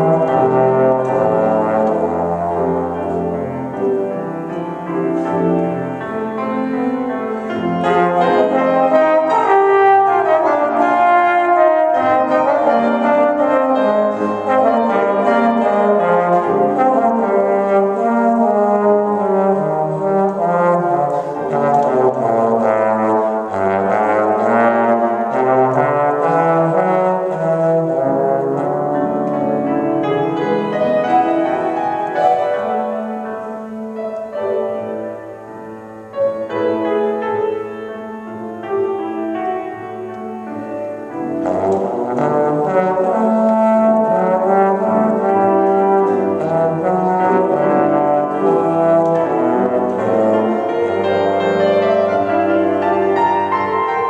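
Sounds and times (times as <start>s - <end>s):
trombone melodic solo: 0.0s - 4.0s, 7.4s - 35.4s, 41.1s - 54.0s
grand piano accompaniment: 0.0s - 54.0s.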